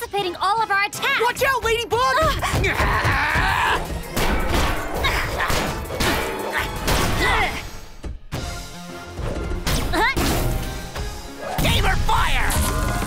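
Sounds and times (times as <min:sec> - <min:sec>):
action music: 0:00.0 - 0:13.0.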